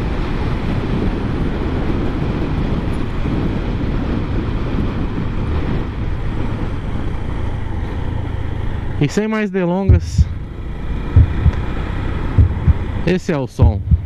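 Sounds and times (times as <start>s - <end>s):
moving car road and engine noise: 0.0s - 14.0s.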